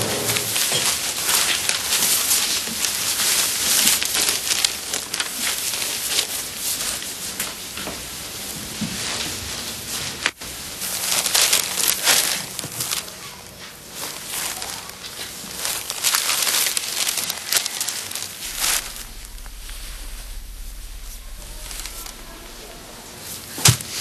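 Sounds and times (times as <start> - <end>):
paper rustling and crackling: 0.0 - 7.4, 10.5 - 23.0.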